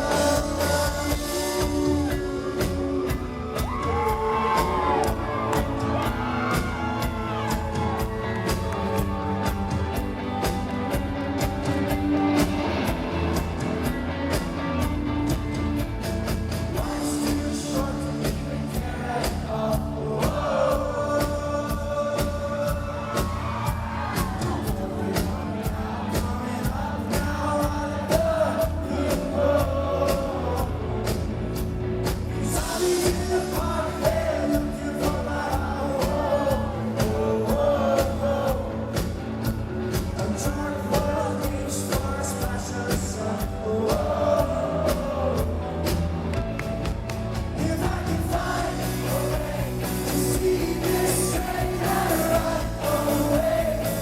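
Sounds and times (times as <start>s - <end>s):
lead singer singing: 0.0s - 54.0s
rock band playing live: 0.0s - 54.0s
steady drum beat: 0.0s - 54.0s.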